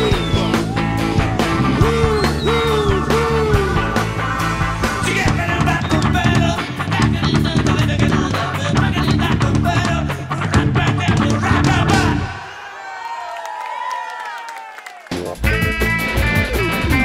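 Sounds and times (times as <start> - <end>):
rock song with guitar and drums: 0.0 - 12.3, 15.2 - 17.0.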